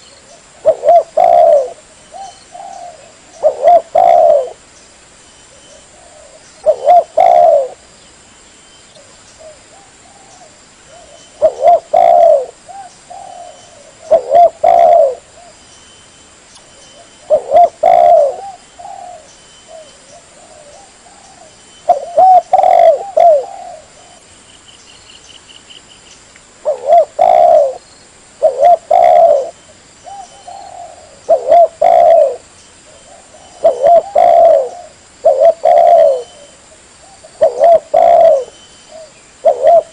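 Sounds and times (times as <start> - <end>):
dove cooing: 0.0 - 4.6, 5.6 - 7.9, 9.0 - 15.6, 16.9 - 24.3, 26.6 - 27.8, 28.4 - 39.9
faint high bird chirps: 0.0 - 39.9.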